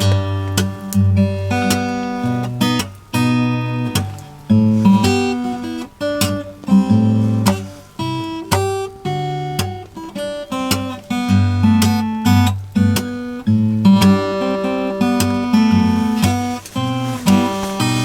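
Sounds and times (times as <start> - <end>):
acoustic guitar: 0.0 - 18.0.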